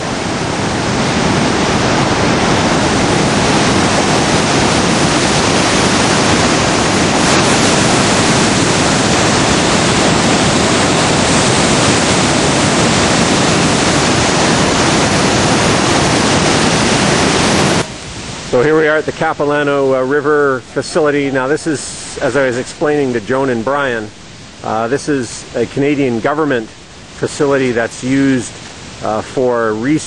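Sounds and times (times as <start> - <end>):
falling water rushing: 0.0 - 30.0.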